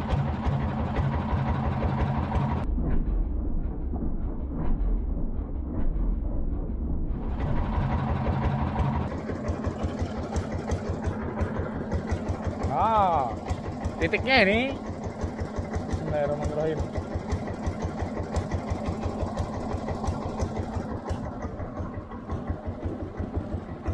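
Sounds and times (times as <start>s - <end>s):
small boat engine running: 0.0s - 23.9s.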